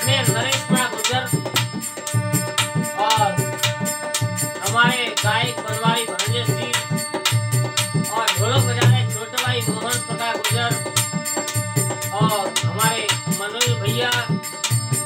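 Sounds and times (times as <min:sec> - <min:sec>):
hand drum rhythm: 0:00.0 - 0:15.0
harmonium reed tones: 0:00.0 - 0:15.0.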